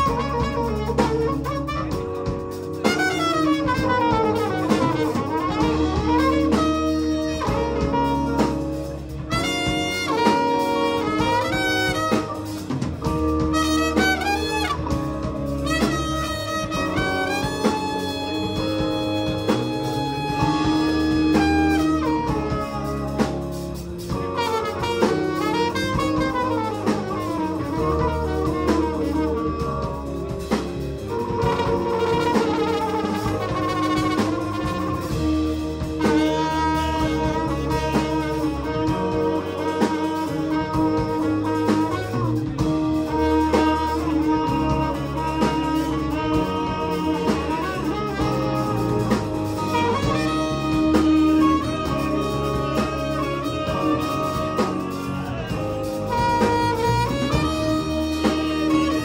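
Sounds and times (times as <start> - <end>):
drum kit: 0.0 - 59.0
electric bass: 0.0 - 59.0
electric guitar: 0.0 - 59.0
trumpet solo: 0.0 - 59.0.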